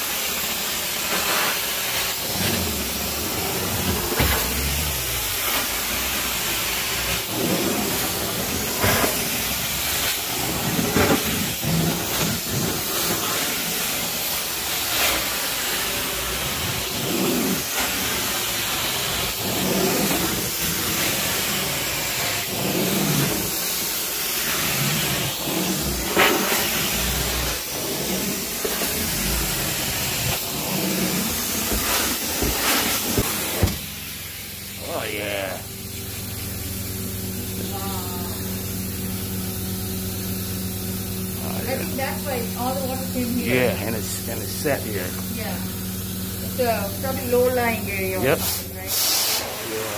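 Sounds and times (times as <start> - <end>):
carpet extraction wand hissing: 0.0 - 49.9.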